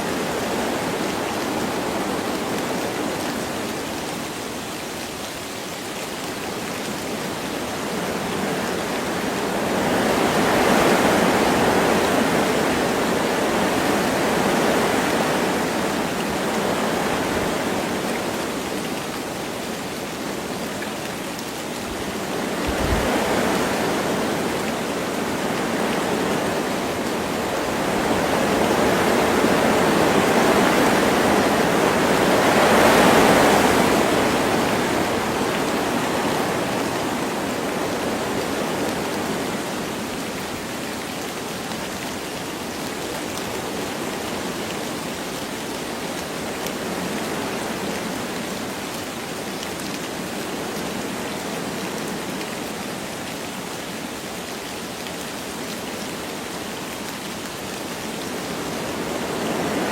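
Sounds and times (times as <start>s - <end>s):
light rain: 0.0s - 59.9s
wind through forest trees: 0.0s - 59.9s.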